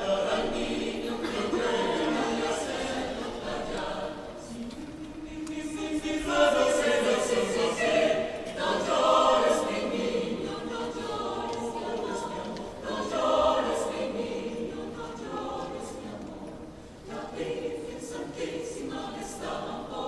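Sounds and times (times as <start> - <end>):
choir singing a cappella: 0.0 - 20.0.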